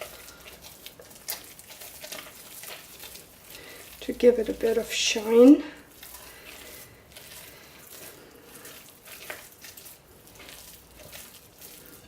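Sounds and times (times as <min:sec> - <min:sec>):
spatula squishing and scraping soap: 0:00.0 - 0:12.0.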